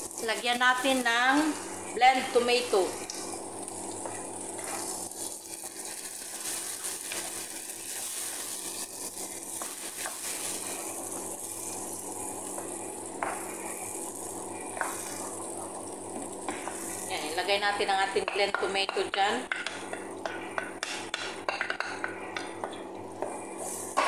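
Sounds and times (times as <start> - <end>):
sauce sizzling in frying pan: 0.0 - 18.8, 19.7 - 24.0.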